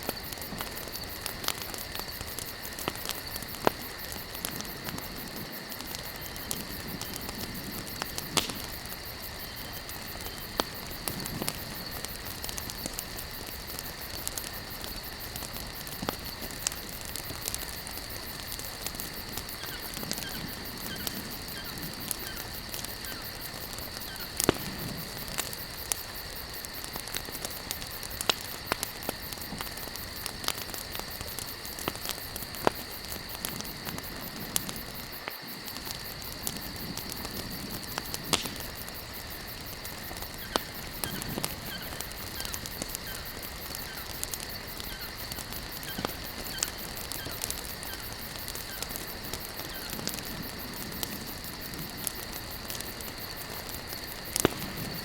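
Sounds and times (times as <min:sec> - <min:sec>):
campfire crackling and popping: 0:00.0 - 0:55.0
insect drone: 0:00.0 - 0:55.0.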